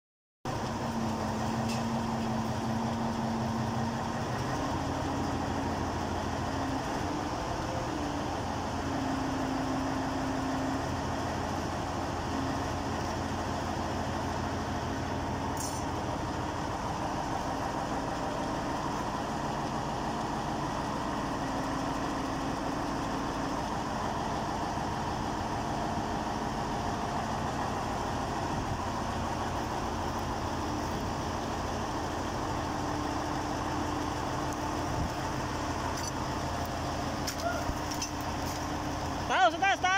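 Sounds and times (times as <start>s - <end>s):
crane engine humming: 0.5s - 39.9s.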